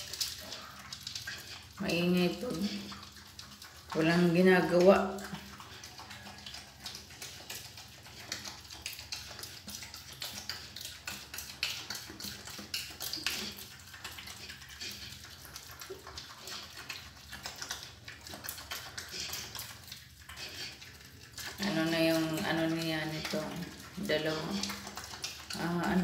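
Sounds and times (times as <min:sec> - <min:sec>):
pig crunching feed pellets: 0:00.0 - 0:26.0.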